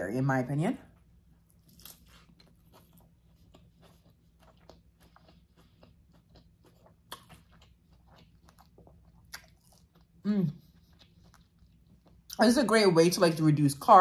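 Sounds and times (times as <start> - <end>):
person chewing: 1.0 - 12.4.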